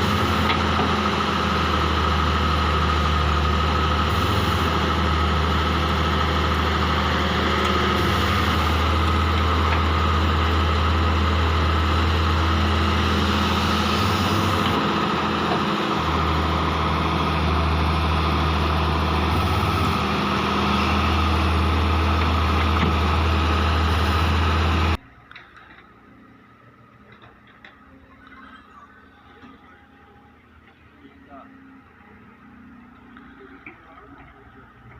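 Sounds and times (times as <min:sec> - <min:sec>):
excavator diesel engine humming: 0:00.0 - 0:34.9.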